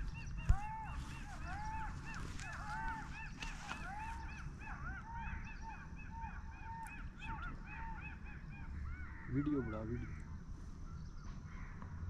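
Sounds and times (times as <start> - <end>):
flock of birds calling: 0.0 - 11.8.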